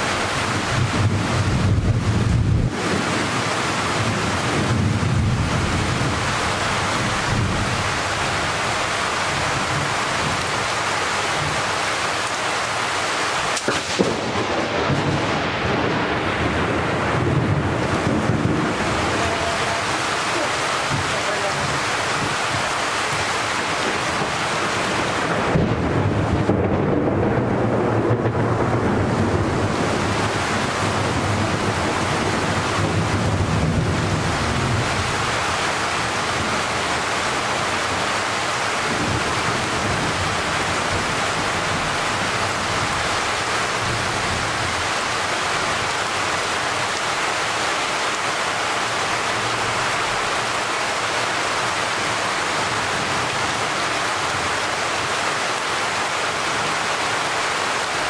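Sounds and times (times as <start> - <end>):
thunder rumbling: 0.0 - 47.0
steady rain: 0.0 - 58.0.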